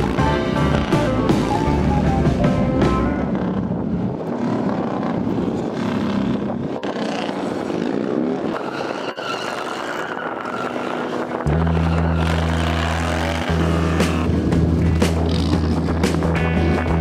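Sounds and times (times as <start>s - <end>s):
motorcycle engine revving: 0.0s - 8.7s, 10.6s - 17.0s.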